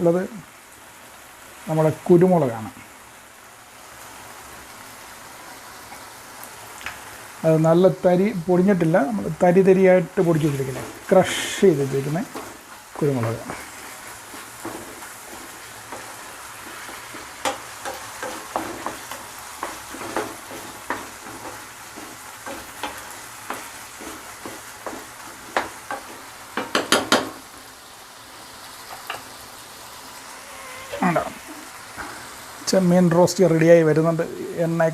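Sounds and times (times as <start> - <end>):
food sizzling in a pan: 0.0 - 34.9.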